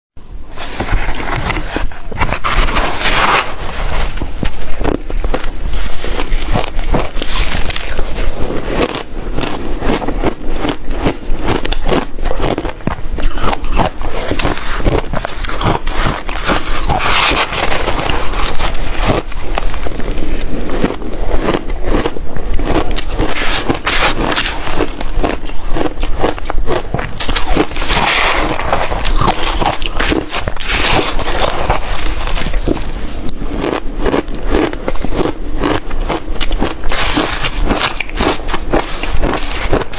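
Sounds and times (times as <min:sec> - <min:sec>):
ice being crunched: 0:00.5 - 0:22.1, 0:22.7 - 0:39.9.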